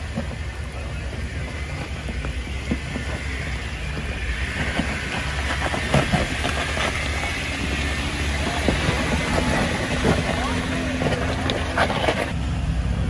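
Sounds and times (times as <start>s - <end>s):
rocks knocking under tyres: 0.0s - 12.4s
gravel crunching: 0.0s - 12.6s
engine running low: 0.0s - 13.0s.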